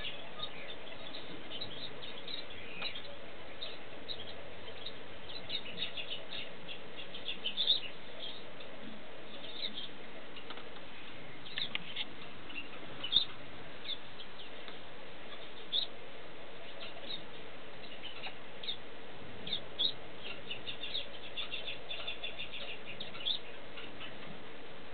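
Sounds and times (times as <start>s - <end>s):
faint steady hiss: 0.0s - 24.9s.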